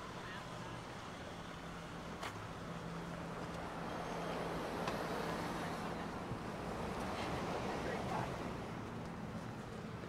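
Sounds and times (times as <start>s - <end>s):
car tyres on road: 0.0s - 10.0s.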